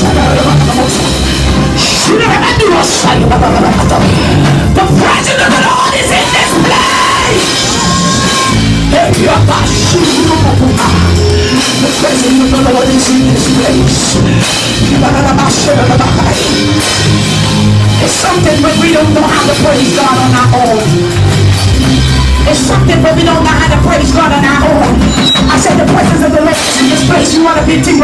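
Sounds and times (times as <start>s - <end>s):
gospel music with drums and singing: 0.0s - 28.0s.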